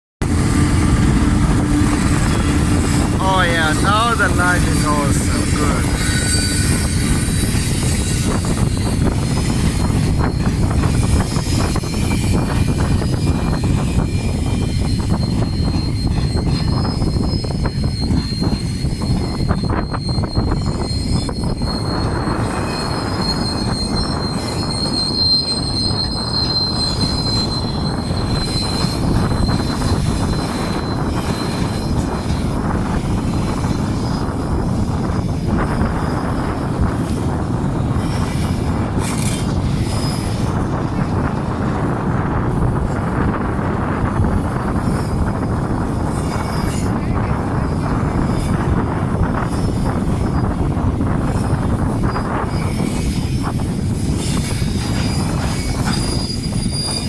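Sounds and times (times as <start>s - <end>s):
steel wheel squeal: 0.2s - 42.1s, 42.7s - 57.0s
train wheels rumbling: 0.2s - 57.0s.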